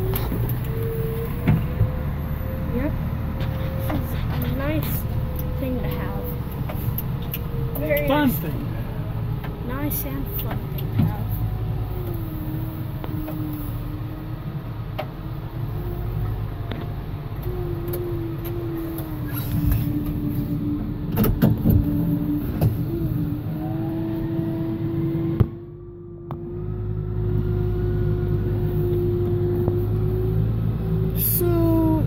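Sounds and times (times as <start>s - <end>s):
steady engine whine: 0.0s - 32.0s
tractor engine rumbling: 0.0s - 32.0s.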